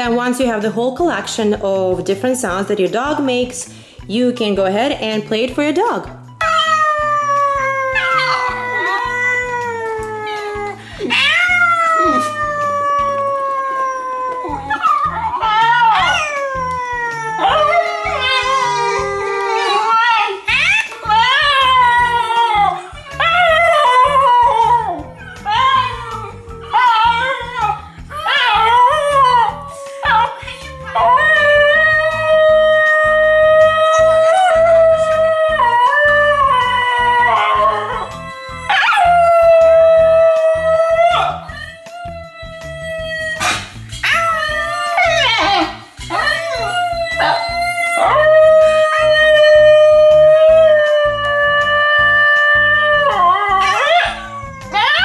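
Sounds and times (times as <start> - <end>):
background music with bass line: 0.0 - 55.0
dog howling through phone speaker: 6.4 - 10.0, 11.1 - 55.0.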